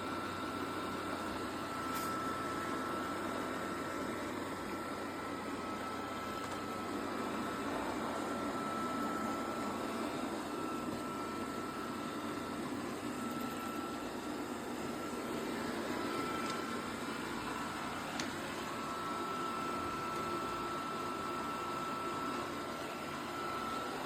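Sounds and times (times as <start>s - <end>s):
robot vacuum running: 0.0s - 24.0s.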